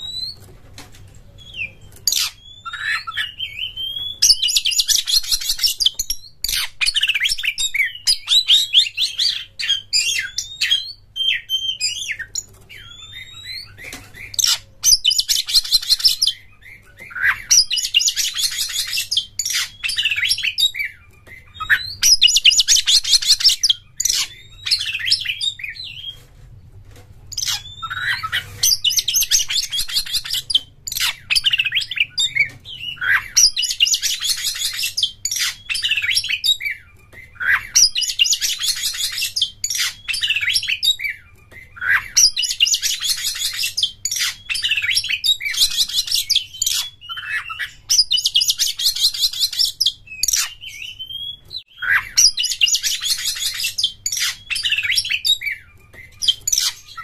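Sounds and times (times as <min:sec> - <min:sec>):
bird singing chattering song: 0:01.1 - 0:26.2, 0:27.3 - 0:57.0.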